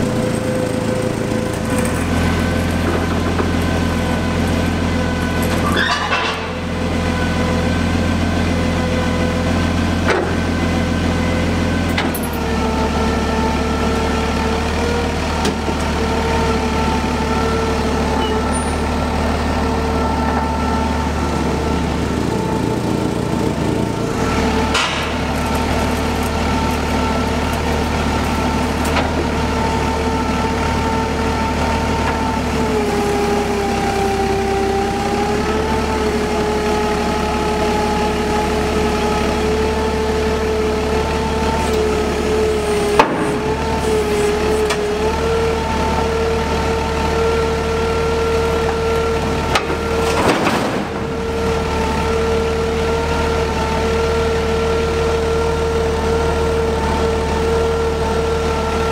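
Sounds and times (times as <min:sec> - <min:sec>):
forklift engine running: 0:00.0 - 0:58.9.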